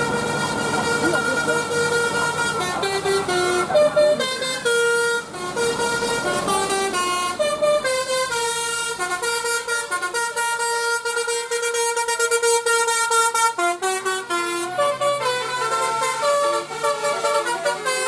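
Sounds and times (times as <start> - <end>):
bus horn playing melody: 0.0 - 18.0.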